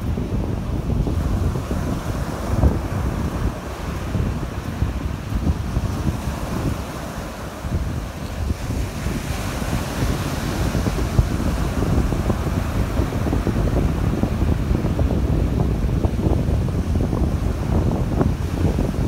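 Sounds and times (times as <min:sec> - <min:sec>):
waves breaking on beach: 0:00.0 - 0:19.0
wind buffeting microphone: 0:00.0 - 0:19.0.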